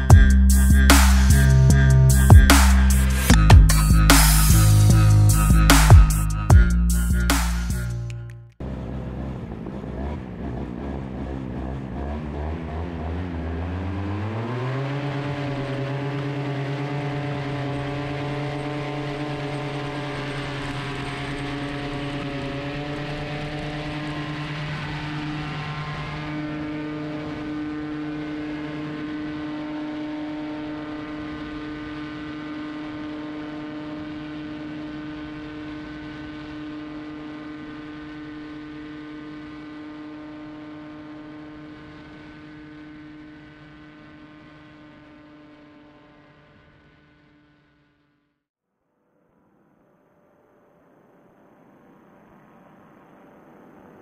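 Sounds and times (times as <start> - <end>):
paramotor engine at high revs: 0.0 - 6.6, 8.6 - 48.2.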